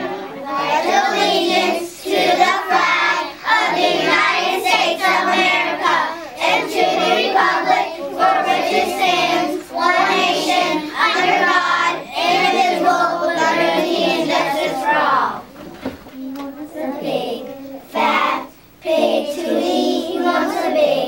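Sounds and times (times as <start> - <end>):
children singing together: 0.0 - 15.5, 16.4 - 21.0.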